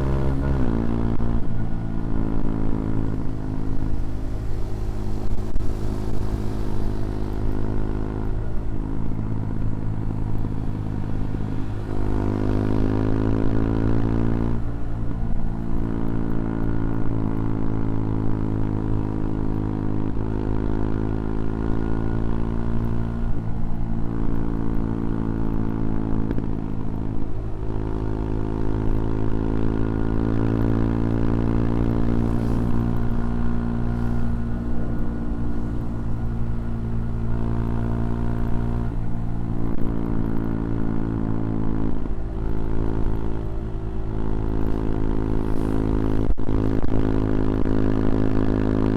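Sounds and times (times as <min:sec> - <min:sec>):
motorcycle engine revving: 0:00.0 - 0:48.9
wind and road rush: 0:00.0 - 0:48.9.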